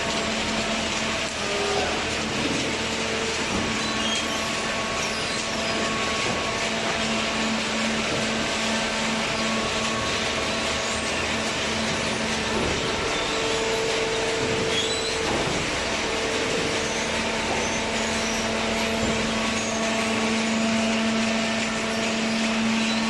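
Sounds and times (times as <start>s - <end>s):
hydraulic baler machine running: 0.0s - 23.0s.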